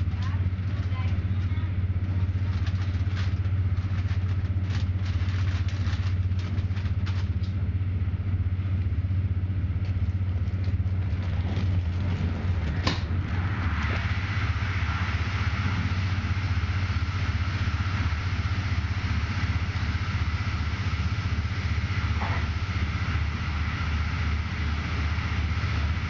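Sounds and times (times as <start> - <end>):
train rumbling inside carriage: 0.0 - 26.0.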